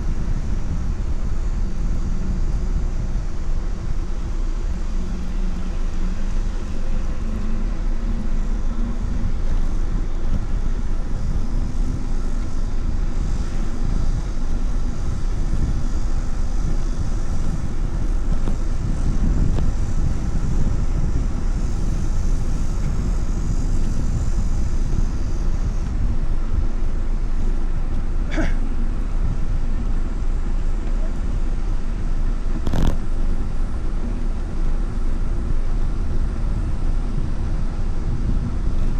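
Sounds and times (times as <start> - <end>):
road rumble: 0.0 - 38.9
wind on microphone: 0.0 - 38.9.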